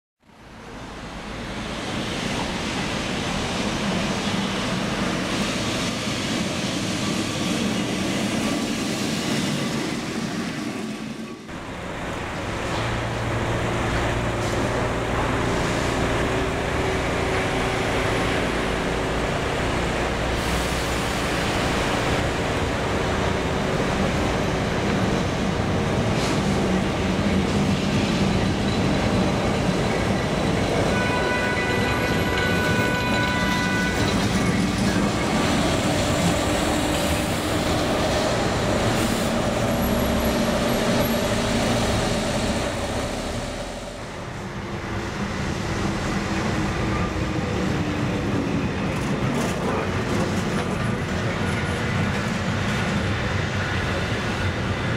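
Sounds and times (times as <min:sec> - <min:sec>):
street traffic: 0:00.2 - 0:08.6, 0:10.6 - 0:54.9
tram rumbling on rails: 0:00.3 - 0:54.9.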